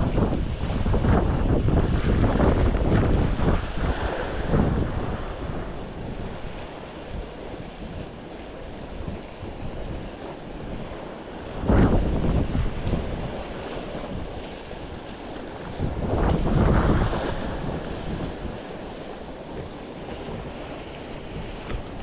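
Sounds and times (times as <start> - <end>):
surf washing on shore: 0.0 - 22.0
wind buffeting microphone: 0.0 - 22.0.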